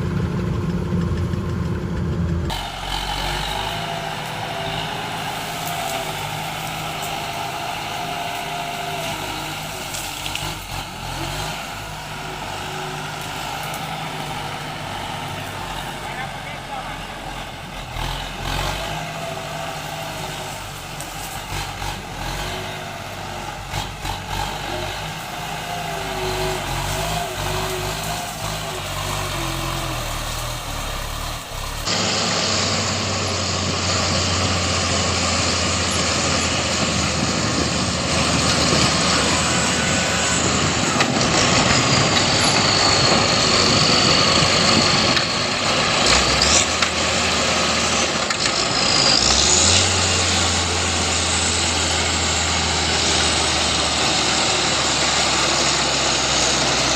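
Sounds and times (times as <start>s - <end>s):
rough loud engine: 0.0s - 56.9s
tractor engines running: 0.0s - 56.9s.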